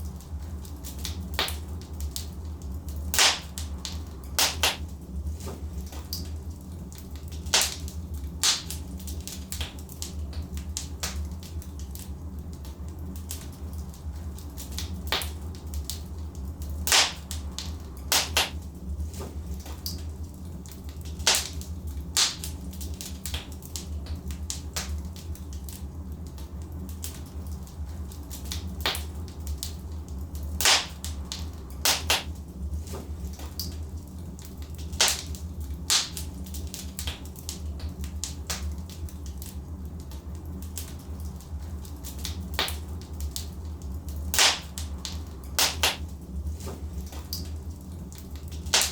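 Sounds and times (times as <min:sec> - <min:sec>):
logs crackling and popping: 0:00.0 - 0:48.9
low rumble of fire: 0:00.0 - 0:48.9.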